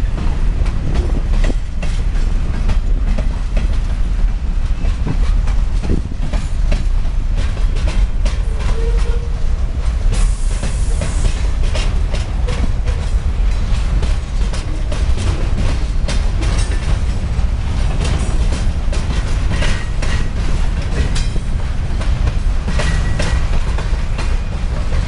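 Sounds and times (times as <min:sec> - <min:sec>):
freight train rumbling past: 0:00.0 - 0:25.0
wheels clacking over rail joints: 0:00.0 - 0:25.0.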